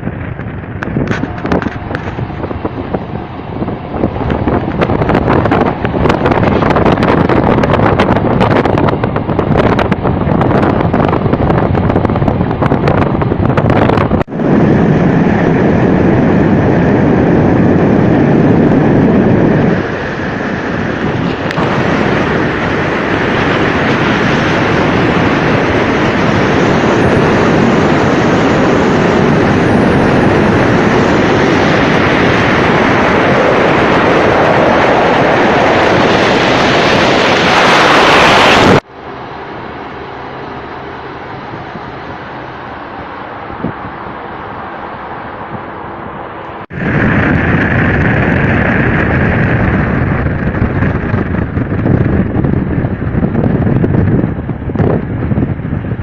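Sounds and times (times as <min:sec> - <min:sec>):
vehicle road noise: 0:00.0 - 0:56.0
wind buffeting microphone: 0:00.0 - 0:56.0.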